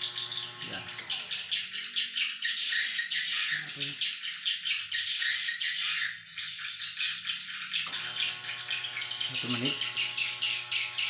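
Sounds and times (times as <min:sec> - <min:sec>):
birds chattering: 0:00.0 - 0:11.0.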